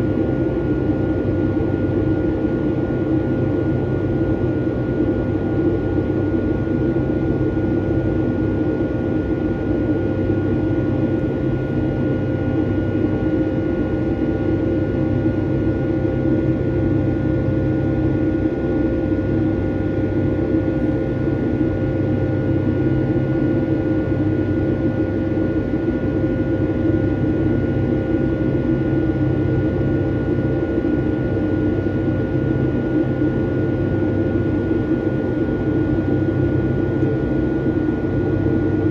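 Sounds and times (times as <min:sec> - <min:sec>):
airplane cabin engine rush: 0:00.0 - 0:38.9.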